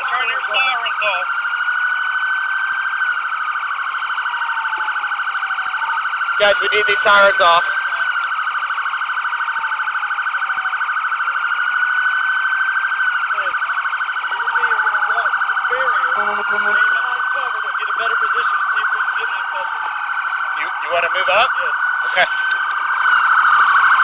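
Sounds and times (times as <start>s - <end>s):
police sirens overlapping: 0.0s - 24.0s.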